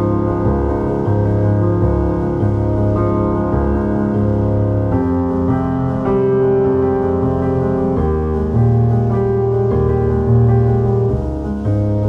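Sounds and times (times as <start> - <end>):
gentle piano piece: 0.0 - 12.0.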